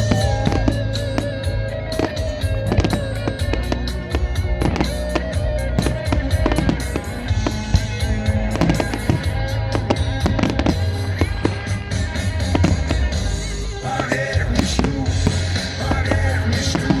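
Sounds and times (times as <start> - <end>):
fireworks bangs and crackles: 0.0 - 17.0
loud music with heavy bass: 0.0 - 17.0.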